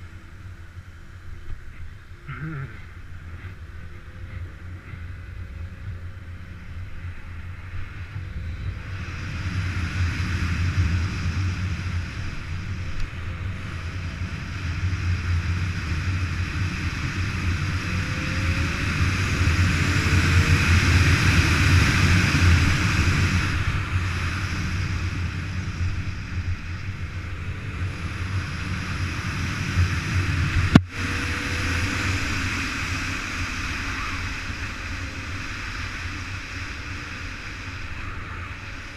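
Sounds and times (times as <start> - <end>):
motorcycle engine drone: 0.0 - 38.9
rushing wind noise: 2.9 - 38.9.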